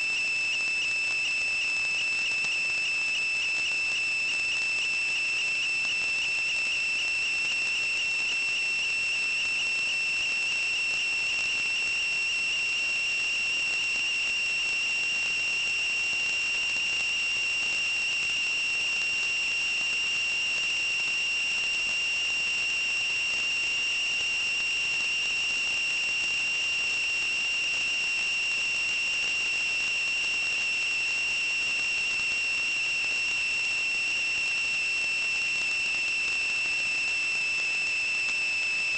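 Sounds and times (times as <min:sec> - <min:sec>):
high-pitched whistle: 0:00.0 - 0:38.9.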